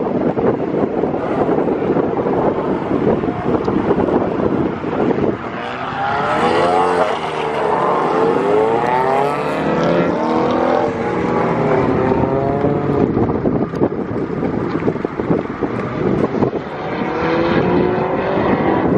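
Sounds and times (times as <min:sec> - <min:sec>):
wind buffeting microphone: 0:00.0 - 0:18.9
car engine revving: 0:01.1 - 0:18.9.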